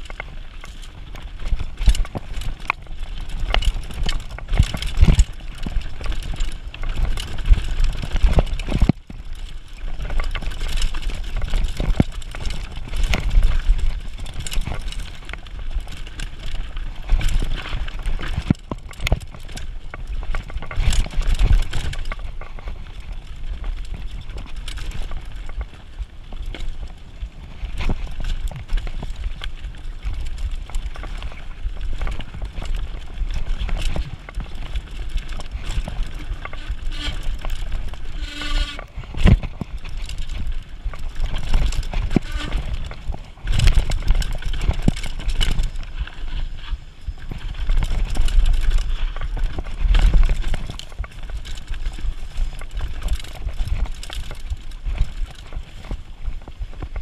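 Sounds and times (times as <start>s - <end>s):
bike knocking and rattling: 0.0s - 57.0s
tyres rumbling over dirt: 0.0s - 57.0s.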